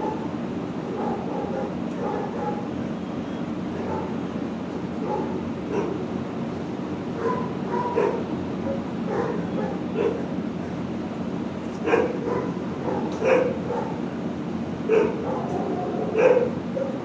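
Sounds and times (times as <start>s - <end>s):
dogs barking: 0.0s - 2.9s, 3.7s - 6.3s, 7.0s - 10.9s, 11.8s - 14.2s, 14.8s - 17.0s.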